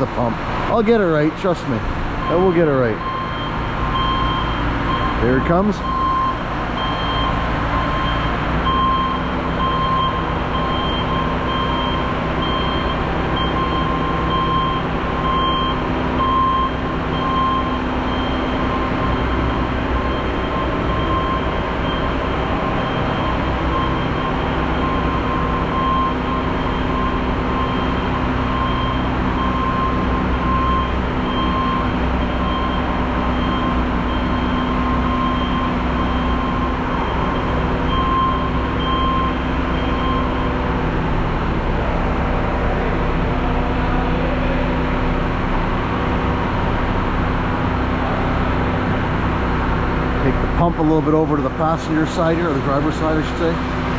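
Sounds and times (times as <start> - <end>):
truck engine running: 0.0 - 53.9
truck reverse alarm beeping: 2.2 - 53.9.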